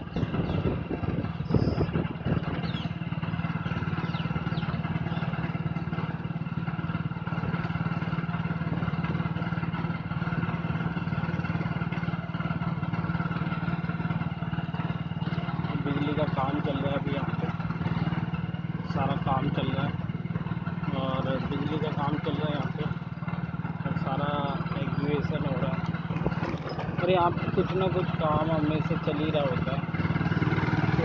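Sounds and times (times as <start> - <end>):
motorbike engine humming steadily: 0.0 - 31.0.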